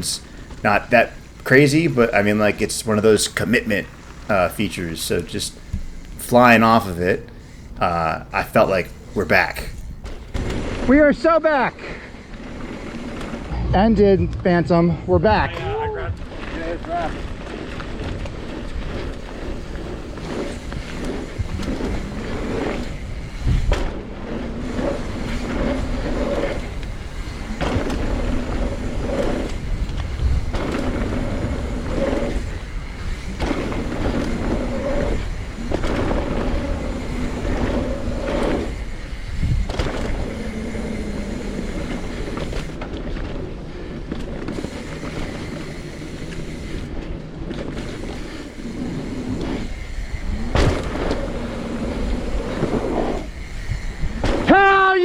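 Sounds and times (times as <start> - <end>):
bike rattling: 0.0 - 13.6, 15.3 - 55.0
tyre and wind noise: 0.0 - 55.0.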